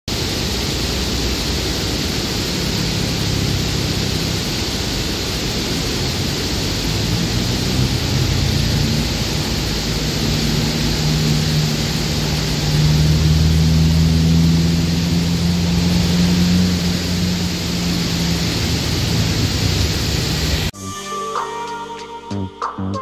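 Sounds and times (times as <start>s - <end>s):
steady rain falling: 0.1s - 20.7s
low hum: 0.1s - 20.8s.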